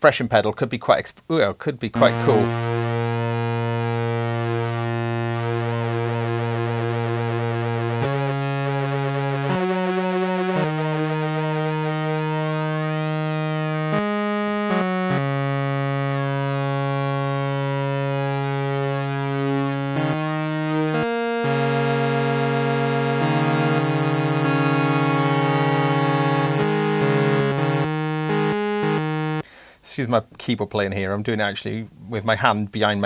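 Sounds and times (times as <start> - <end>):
flanged synthesizer notes: 2.0 - 29.4.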